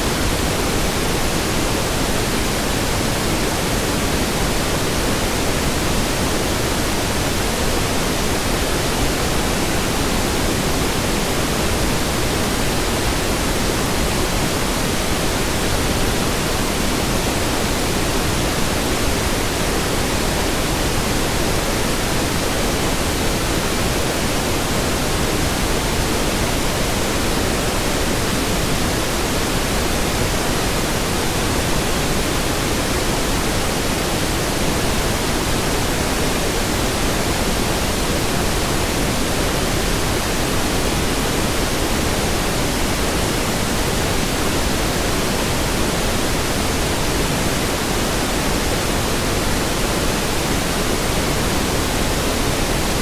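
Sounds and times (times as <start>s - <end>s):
pink noise: 0.0s - 53.0s.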